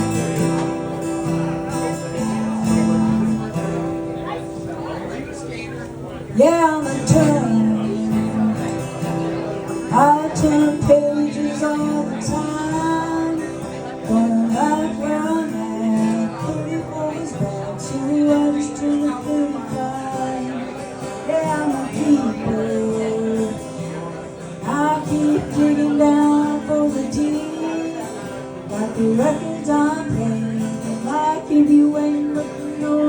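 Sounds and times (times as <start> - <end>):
live country band music: 0.0 - 33.0.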